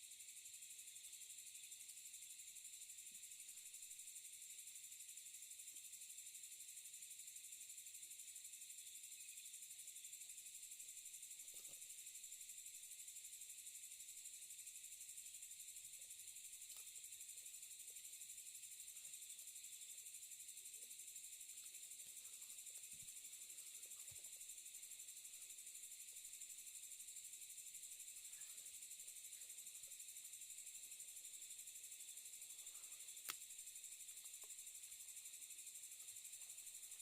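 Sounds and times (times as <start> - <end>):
night insects trilling: 0.0 - 37.0.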